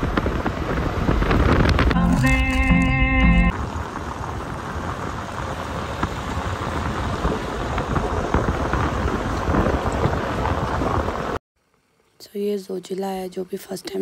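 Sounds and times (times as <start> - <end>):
car road noise: 0.0 - 11.4
rushing wind: 0.0 - 11.4.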